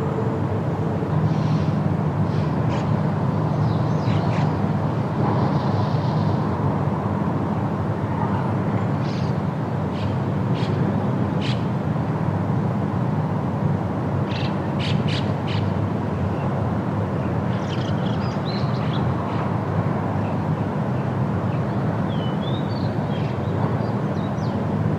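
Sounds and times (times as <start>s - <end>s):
steady wind: 0.0s - 24.9s.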